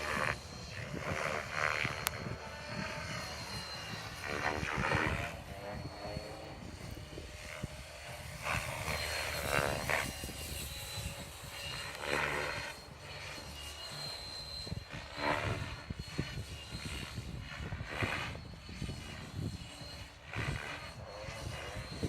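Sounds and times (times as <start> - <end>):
helicopter rotor whooshing: 0.0 - 22.0
high motor whine: 0.0 - 22.0
wind rumble on microphone: 0.0 - 22.0.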